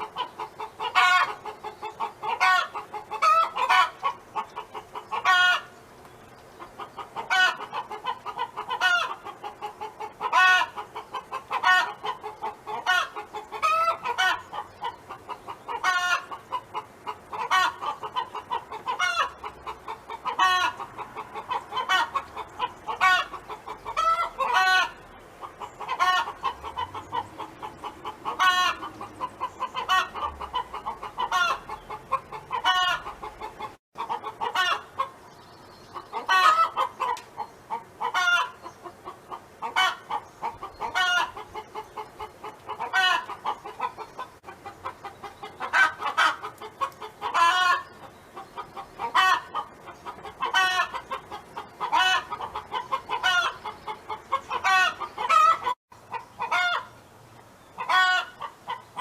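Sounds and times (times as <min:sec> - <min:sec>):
hen clucking: 0:00.0 - 0:05.8, 0:06.4 - 0:57.0, 0:57.7 - 0:59.0.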